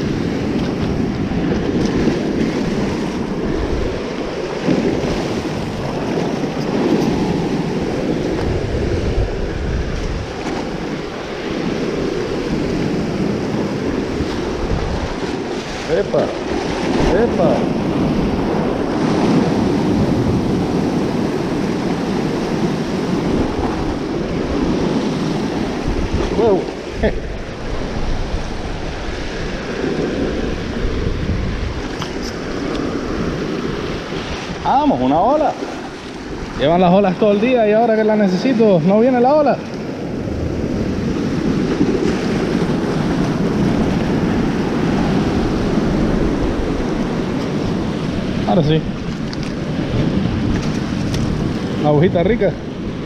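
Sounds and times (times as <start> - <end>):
surf breaking on rocks: 0.0 - 53.0
wind on microphone: 0.0 - 53.0.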